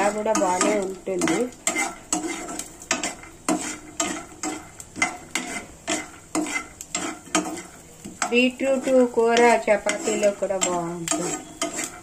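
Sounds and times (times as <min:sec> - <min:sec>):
light sizzle of frying: 0:00.0 - 0:12.0
metal spoon scraping frying pan: 0:00.0 - 0:12.0.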